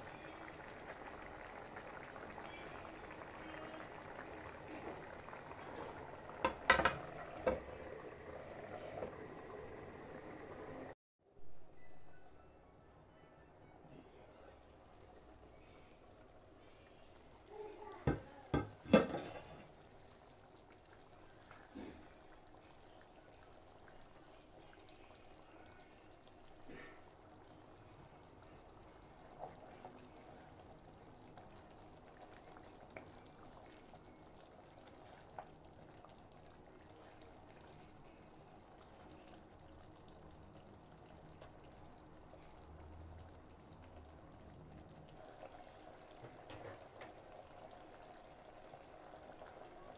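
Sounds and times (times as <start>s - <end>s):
stew simmering faintly: 0.0s - 11.0s, 13.1s - 49.9s.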